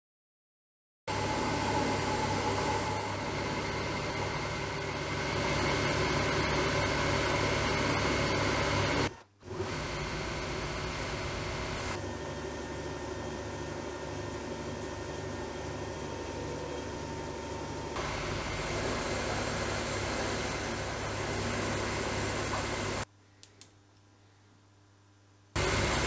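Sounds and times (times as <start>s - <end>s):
metal lathe running: 1.1s - 23.1s, 25.6s - 26.0s.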